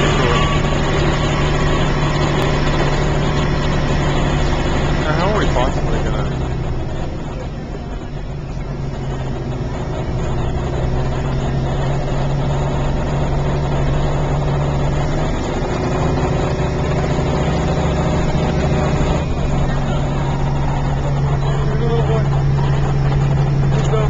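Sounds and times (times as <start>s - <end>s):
train carriage rumble: 0.0s - 24.0s
train engine hum: 0.0s - 24.0s.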